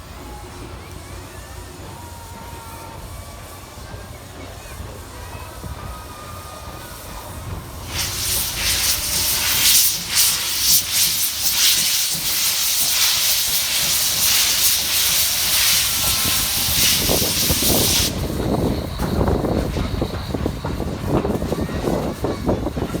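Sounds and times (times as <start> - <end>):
locomotive steam hissing: 0.0 - 23.0.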